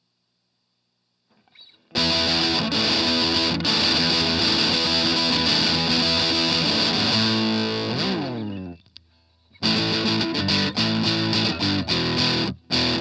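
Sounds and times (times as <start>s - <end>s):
distorted electric guitar: 1.5s - 8.8s, 9.5s - 13.0s.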